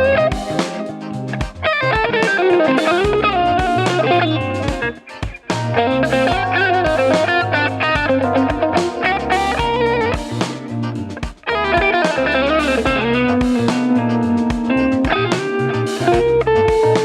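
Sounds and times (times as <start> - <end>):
electric guitar notes and chords: 0.0 - 17.0.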